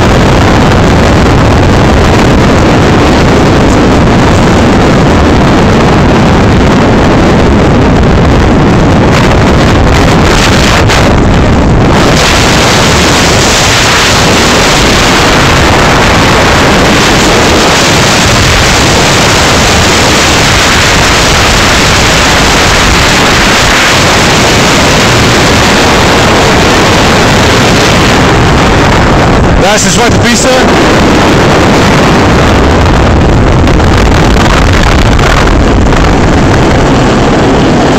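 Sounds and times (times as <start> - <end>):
helicopter noise: 0.0 - 37.9
wind buffeting microphone: 0.0 - 37.9.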